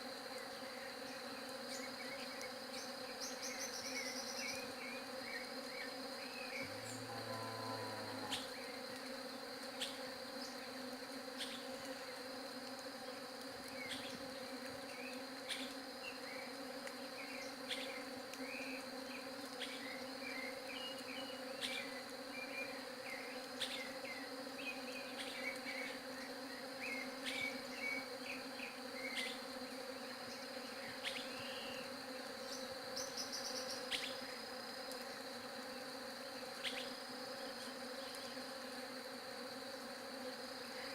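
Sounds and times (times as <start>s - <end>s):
honeybees buzzing: 0.0s - 40.9s.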